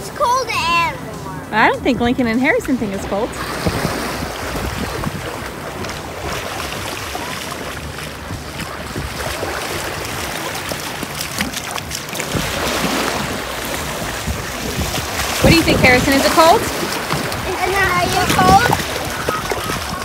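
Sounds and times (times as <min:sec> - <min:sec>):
small waves lapping: 0:00.0 - 0:20.0
wind on microphone: 0:01.6 - 0:20.0
feet splashing in shallow water: 0:03.3 - 0:20.0.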